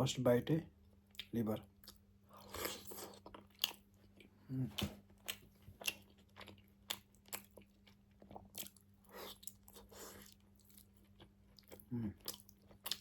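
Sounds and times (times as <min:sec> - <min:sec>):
close chewing with mouth smacks: 0:01.1 - 0:13.0.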